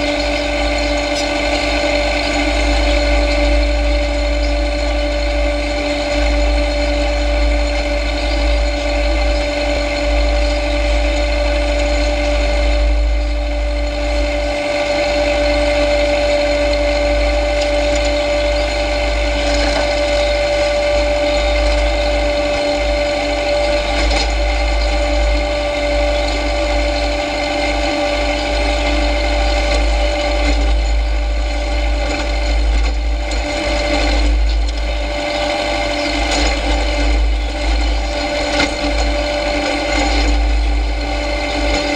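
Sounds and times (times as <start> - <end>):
tractor engine drone: 0.0 - 41.9.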